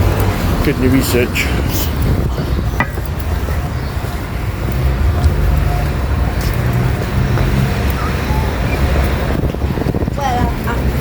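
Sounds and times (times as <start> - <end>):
passing vehicles rumble: 0.0 - 11.0.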